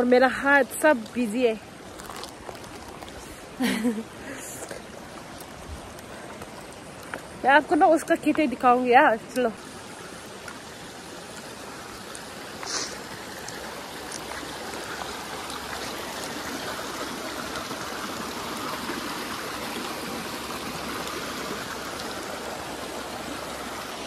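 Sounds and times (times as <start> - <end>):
water running in a stony channel: 0.0 - 24.0.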